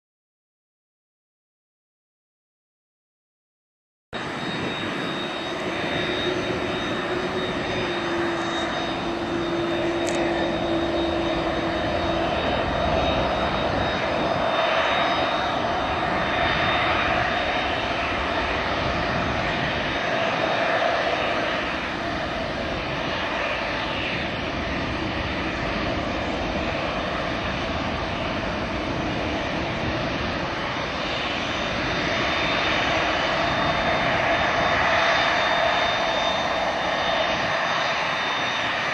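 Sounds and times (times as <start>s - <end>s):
jet engines running: 4.2s - 38.9s.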